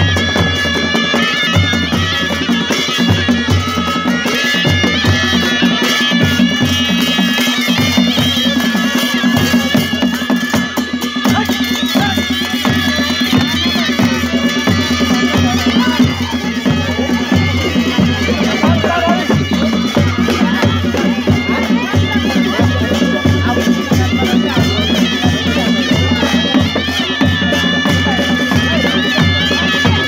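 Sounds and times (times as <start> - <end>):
barrel drum beats: 0.0 - 30.0
shrill reed pipes melody: 0.0 - 30.0.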